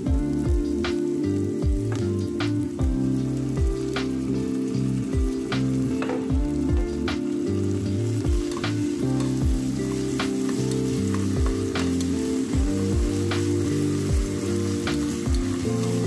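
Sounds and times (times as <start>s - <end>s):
background music with low beat: 0.0s - 16.0s
food sizzling in hot oil: 0.0s - 16.0s.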